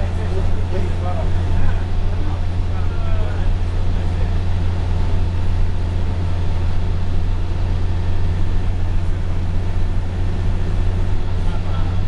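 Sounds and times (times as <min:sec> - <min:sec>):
bus engine drone: 0:00.0 - 0:12.0
tyre and road noise: 0:00.0 - 0:12.0.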